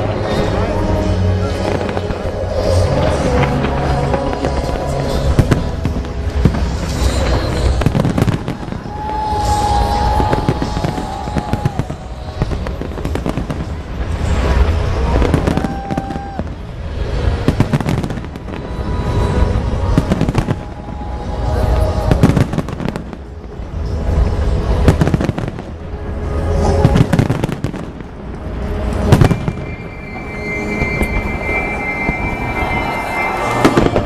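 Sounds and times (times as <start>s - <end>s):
fireworks bangs and crackling: 0.0s - 34.0s
music playing: 0.0s - 34.0s.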